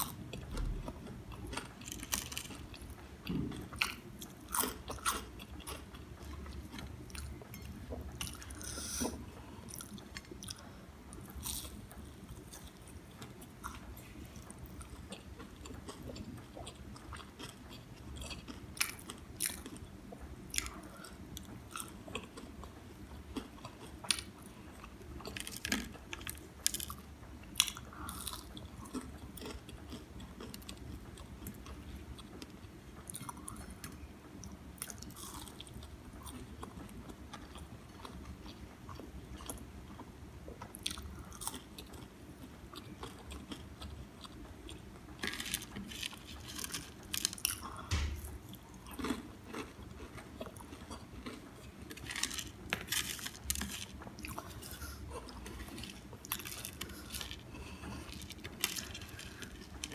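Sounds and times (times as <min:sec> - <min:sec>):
crunching and chewing fritters: 0:00.0 - 0:59.9.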